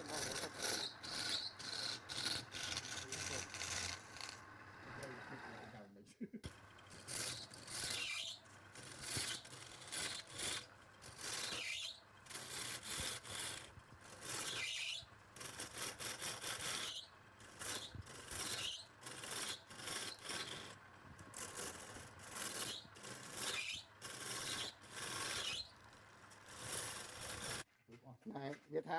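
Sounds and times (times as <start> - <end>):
wood scraping and rubbing: 0.0 - 4.6, 6.5 - 27.7.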